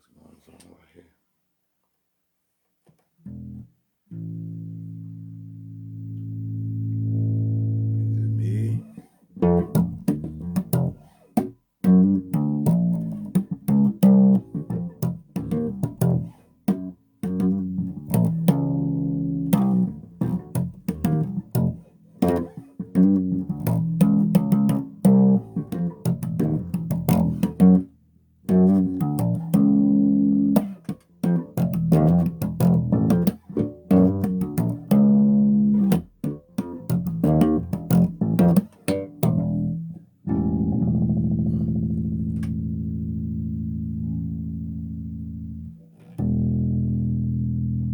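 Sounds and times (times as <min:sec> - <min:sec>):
electric bass guitar notes: 0:03.3 - 0:47.9.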